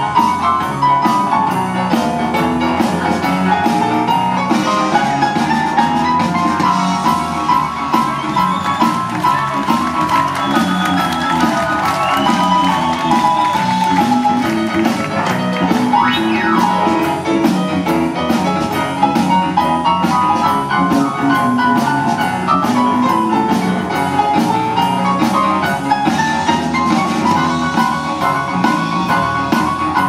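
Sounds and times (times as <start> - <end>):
drum kit steady beat: 0.0 - 30.0
keyboard: 0.0 - 30.0.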